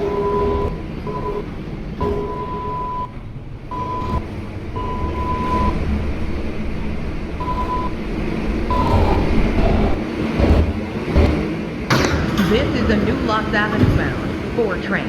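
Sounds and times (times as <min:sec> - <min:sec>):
high steady whine: 0:00.0 - 0:15.0
subway wheels rumbling on rail: 0:00.0 - 0:15.0.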